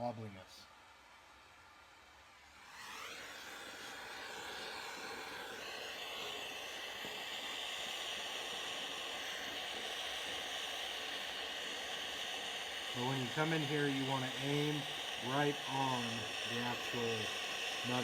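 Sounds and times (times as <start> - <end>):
gas torch hissing: 2.6 - 18.0.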